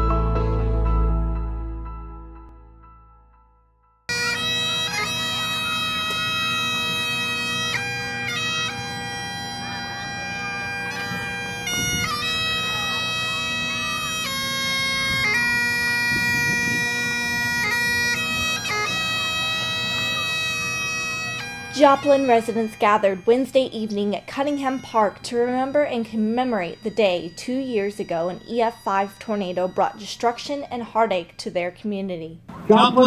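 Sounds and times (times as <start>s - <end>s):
bagpipes playing slow melody: 4.1s - 31.4s.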